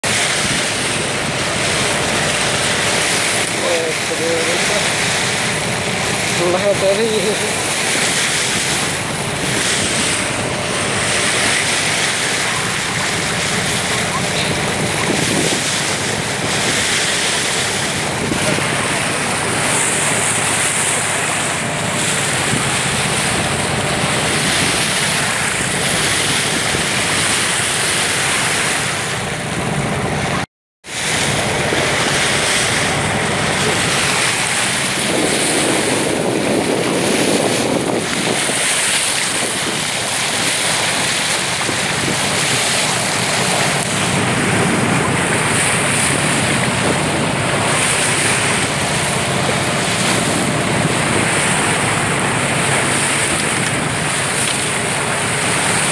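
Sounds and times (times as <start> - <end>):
water rushing along boat bow: 0.0 - 55.9
wind buffeting microphone: 0.2 - 30.4, 31.0 - 55.9.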